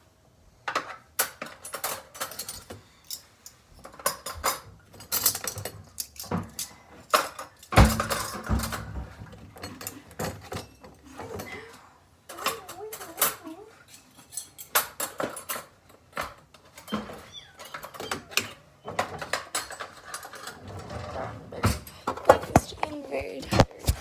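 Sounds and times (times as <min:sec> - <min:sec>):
dishes and cutlery clattering: 0:00.7 - 0:24.0.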